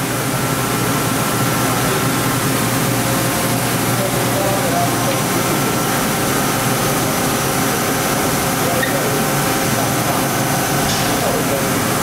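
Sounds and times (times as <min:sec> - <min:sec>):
machining center whirring: 0:00.0 - 0:12.0.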